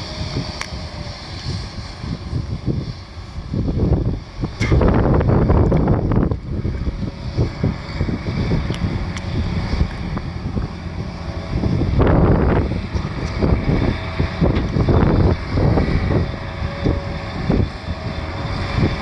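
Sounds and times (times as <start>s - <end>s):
combine harvester running: 0.0s - 19.0s
wind buffeting microphone: 0.0s - 19.0s.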